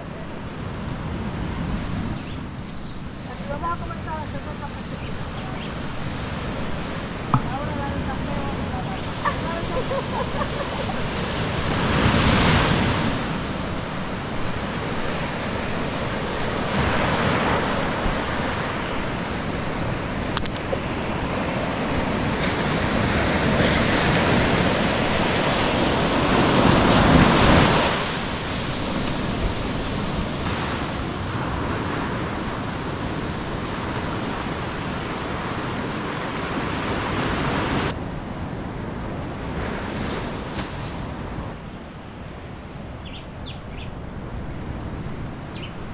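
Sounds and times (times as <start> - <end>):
ocean surf breaking on beach: 3.4 - 43.0.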